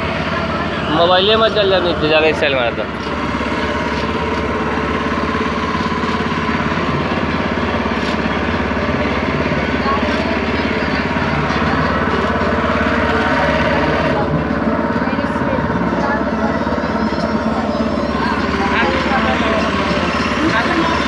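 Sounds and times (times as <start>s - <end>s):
motorboat engine chugging: 0.0s - 21.0s.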